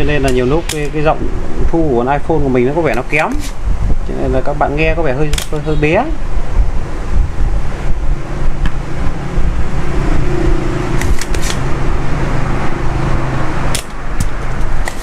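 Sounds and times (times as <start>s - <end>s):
faint hum: 0.0s - 12.1s.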